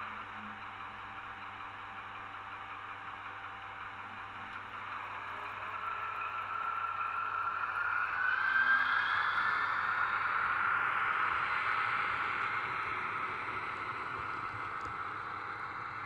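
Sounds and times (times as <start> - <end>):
model locomotive whine: 0.0 - 16.0.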